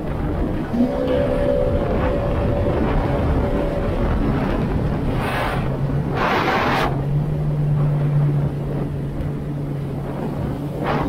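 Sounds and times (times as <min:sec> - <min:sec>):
watercraft engine running: 0:00.0 - 0:11.0.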